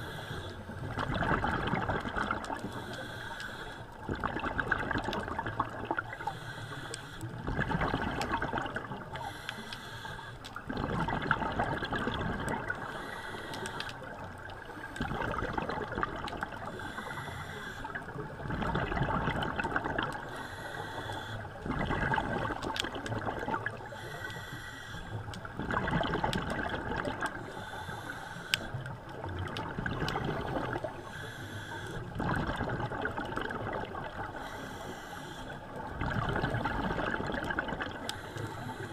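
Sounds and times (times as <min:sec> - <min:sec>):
exhaled air bubbling underwater: 0:00.0 - 0:38.9
steady underwater hiss: 0:00.0 - 0:38.9.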